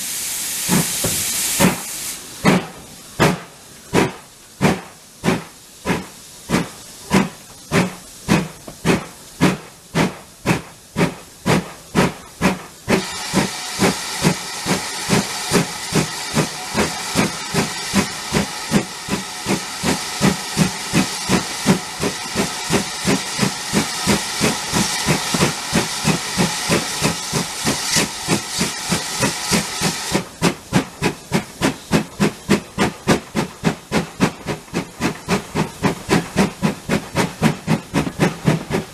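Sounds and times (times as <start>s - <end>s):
loud steam hiss: 0.0s - 38.9s
steam locomotive exhaust chuffing: 0.0s - 38.9s.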